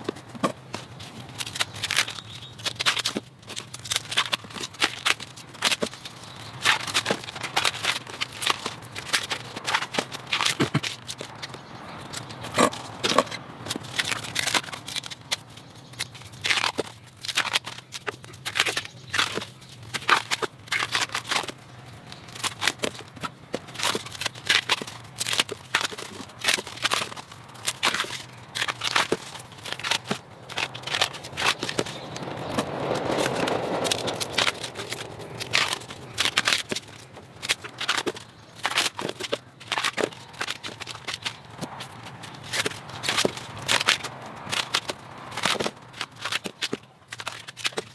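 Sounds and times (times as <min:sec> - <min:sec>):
husks tearing off bamboo shoots: 0:00.0 - 0:47.9.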